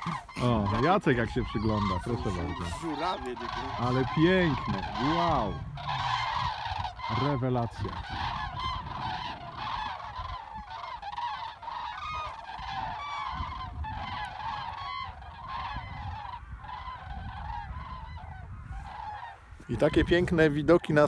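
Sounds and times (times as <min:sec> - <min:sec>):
cranes calling in flight: 0:00.0 - 0:21.0.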